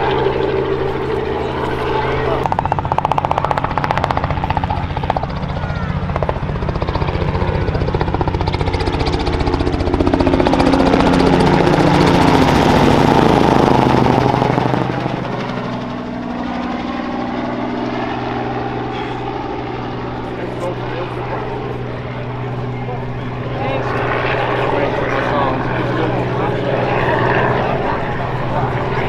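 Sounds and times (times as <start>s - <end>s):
helicopter flying overhead: 0.0s - 29.0s.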